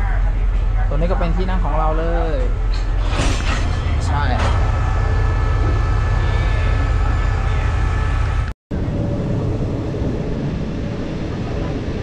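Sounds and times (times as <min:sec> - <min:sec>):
diesel train rumble: 0:00.0 - 0:12.0
faint whining tones: 0:02.2 - 0:12.0.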